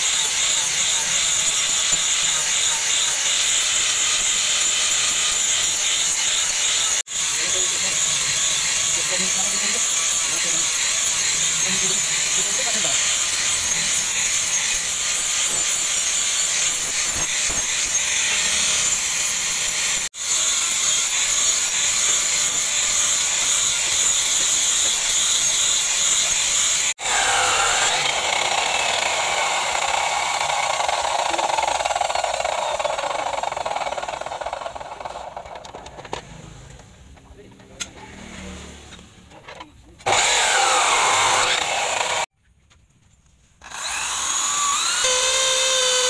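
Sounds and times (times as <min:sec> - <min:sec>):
angle grinder grinding steel: 0:00.0 - 0:36.2, 0:40.0 - 0:42.3, 0:43.6 - 0:46.0.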